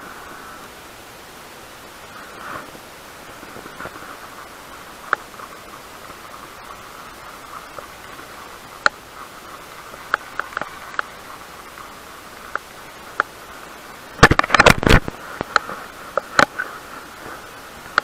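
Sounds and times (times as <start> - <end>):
wind hiss: 0.0 - 18.0.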